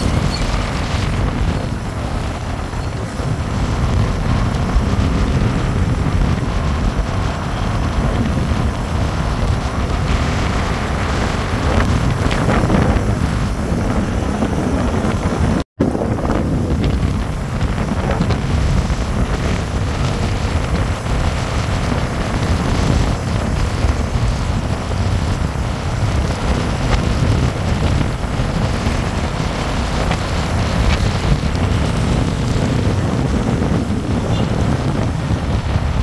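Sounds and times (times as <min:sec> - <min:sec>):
motorcycle road and engine noise: 0:00.0 - 0:36.0
wind rushing over microphone: 0:00.0 - 0:36.0.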